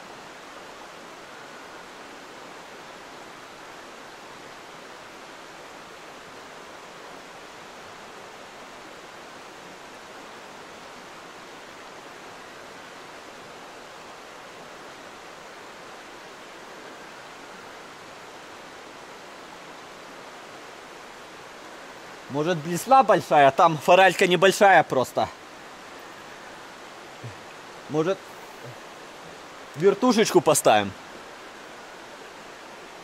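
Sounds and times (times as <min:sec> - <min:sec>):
mountain stream water rushing: 0:00.0 - 0:33.0.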